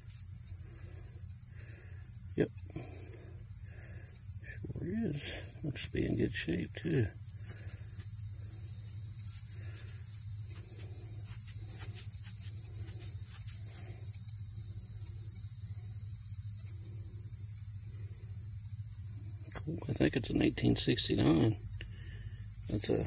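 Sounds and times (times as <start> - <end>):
insects chorus: 0.0 - 23.0.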